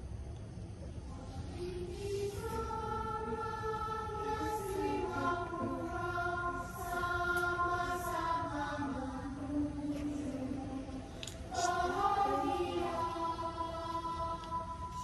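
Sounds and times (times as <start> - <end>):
choir singing from a tablet speaker: 1.1 - 15.0.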